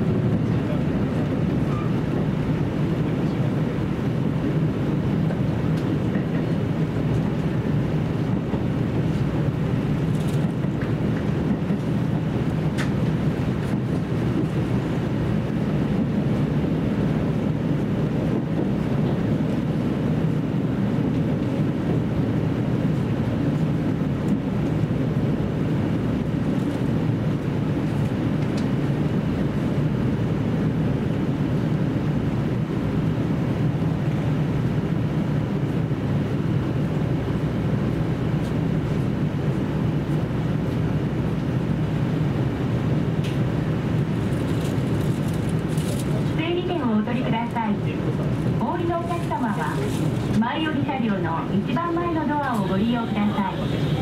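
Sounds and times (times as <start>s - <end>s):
railcar engine and wheels drone: 0.0s - 54.0s.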